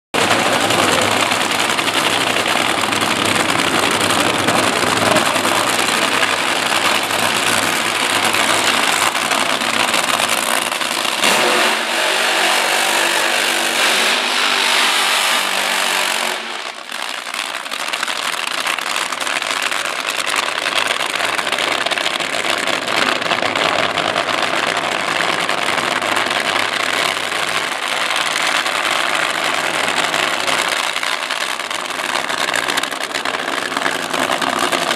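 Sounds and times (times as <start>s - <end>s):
drag racing engines running loud: 0.2s - 34.9s.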